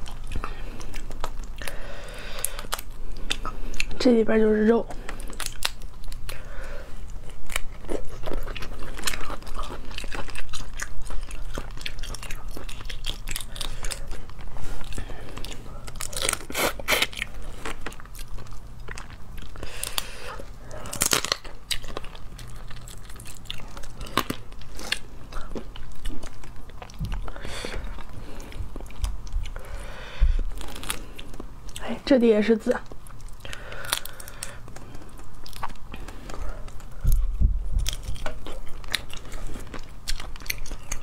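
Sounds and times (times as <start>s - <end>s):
person chewing: 0.0s - 4.0s, 4.9s - 31.8s, 32.8s - 41.0s.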